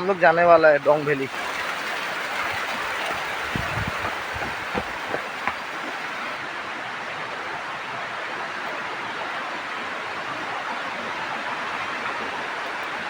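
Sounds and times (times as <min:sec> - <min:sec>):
fast river water rushing: 0:00.0 - 0:13.0.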